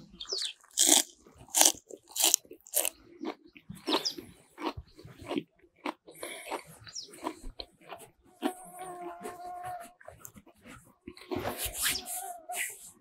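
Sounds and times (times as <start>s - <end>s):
person chewing and crunching: 0.2s - 11.8s.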